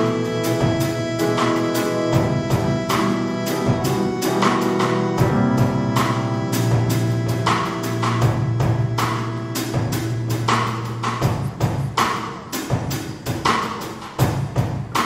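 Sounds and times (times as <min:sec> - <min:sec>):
drum kit beat: 0:00.0 - 0:15.0
live band music: 0:00.0 - 0:15.0.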